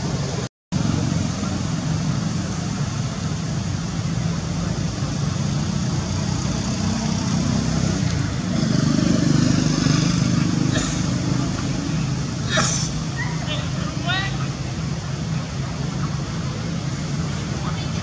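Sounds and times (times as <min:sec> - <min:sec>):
low rumble with hiss: 0:00.0 - 0:18.0.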